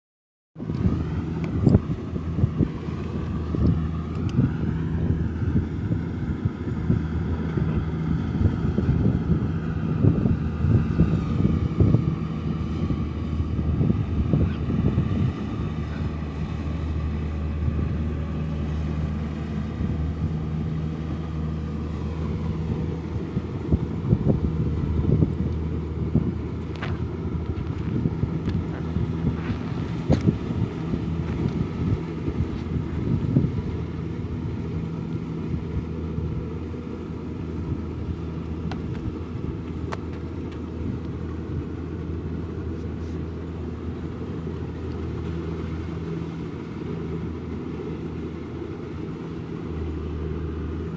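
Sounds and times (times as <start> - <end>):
diesel engine running: 0.6 - 50.9.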